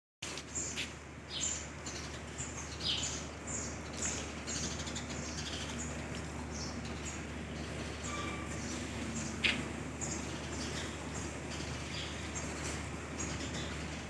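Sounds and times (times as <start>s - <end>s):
small birds chirping: 0.2s - 14.0s
steady low hum: 0.3s - 14.0s.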